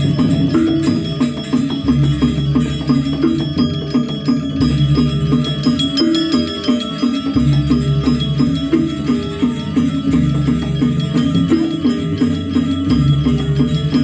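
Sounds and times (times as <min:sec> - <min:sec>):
metallophones interlocking notes: 0:00.0 - 0:14.0.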